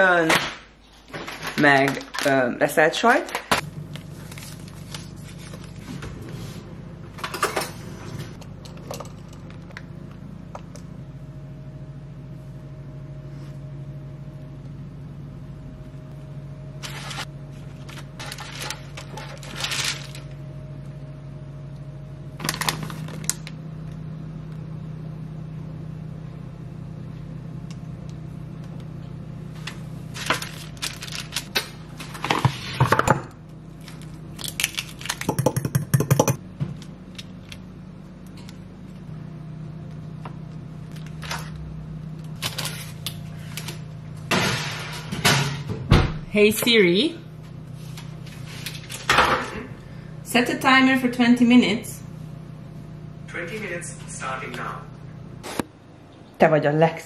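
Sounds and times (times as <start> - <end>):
steady low hum: 3.3 - 57.0.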